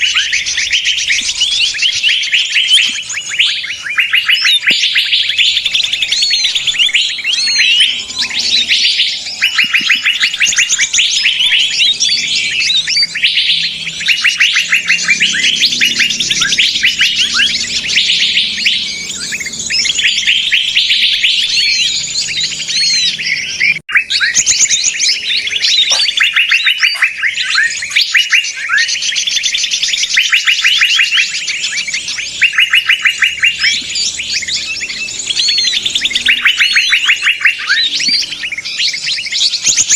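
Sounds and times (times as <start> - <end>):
flock of songbirds chirping: 0.0 - 39.9.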